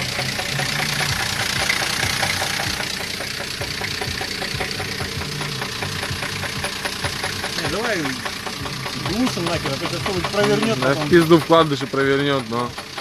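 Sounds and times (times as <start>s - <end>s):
car engine idling: 0.0s - 13.0s
rapid engine knock: 0.0s - 13.0s.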